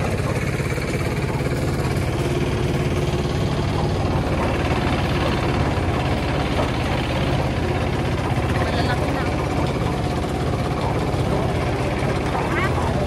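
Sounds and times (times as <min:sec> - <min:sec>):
tractor engine chugging: 0:00.0 - 0:13.0.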